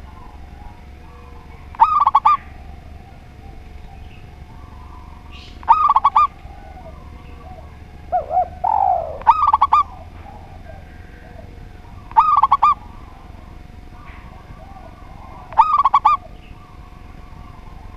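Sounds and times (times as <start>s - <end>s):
doves cooing: 0.0s - 17.9s.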